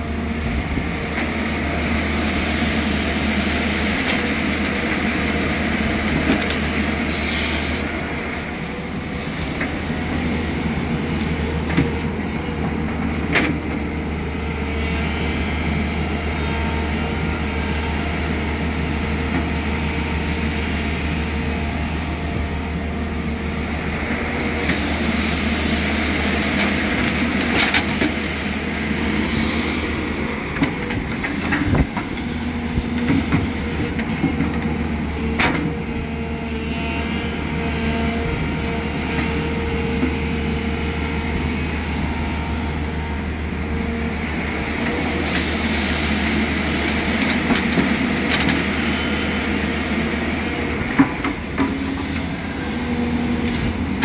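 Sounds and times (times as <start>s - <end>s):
excavator diesel engine running: 0.0s - 54.0s
hydraulic whine: 0.1s - 54.0s.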